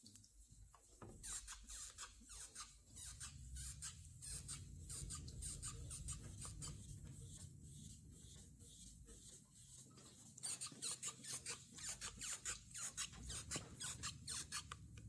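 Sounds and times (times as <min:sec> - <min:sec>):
wet paper squeaking on paint: 0:00.9 - 0:14.9.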